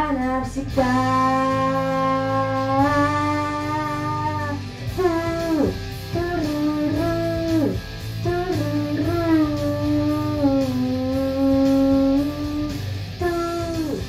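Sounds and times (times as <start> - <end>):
backing track with guitar: 0.0 - 14.0
boy singing into microphone: 0.0 - 14.0.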